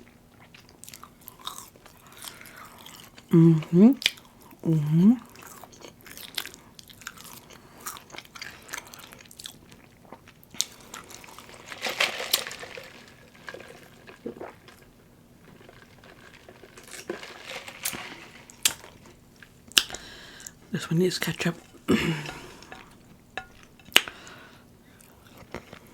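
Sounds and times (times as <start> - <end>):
chewing and crunching food: 0.0 - 25.9.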